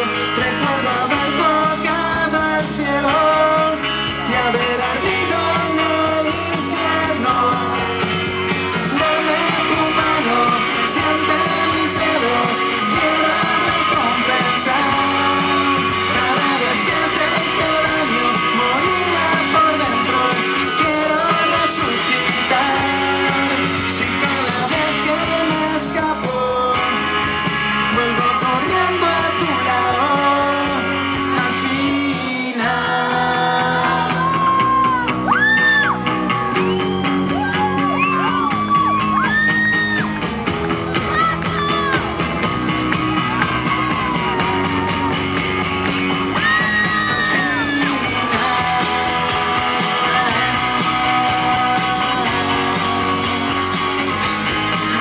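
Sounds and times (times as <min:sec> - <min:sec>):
person singing: 0:00.0 - 0:36.0, 0:46.4 - 0:55.0
high sliding guitar lead line: 0:00.0 - 0:55.0
live rock band playing: 0:00.0 - 0:55.0.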